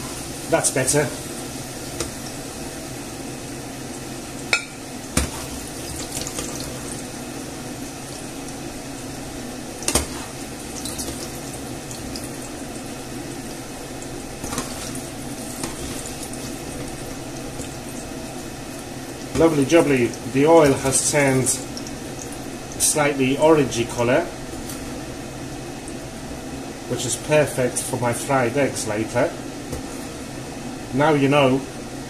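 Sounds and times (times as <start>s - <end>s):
oil sizzling in a frying pan: 0.0s - 26.9s.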